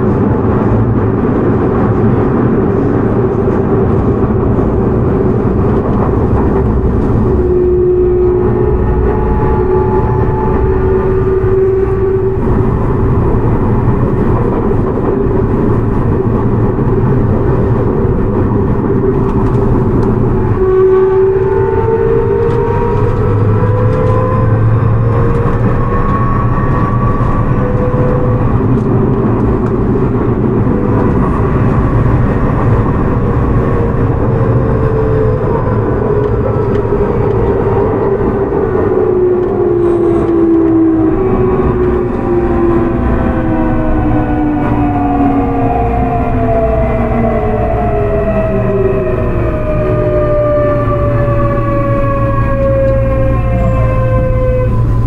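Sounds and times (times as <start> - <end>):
wheel and rail noise: 0.0 - 55.0
train motor whine: 2.4 - 55.0.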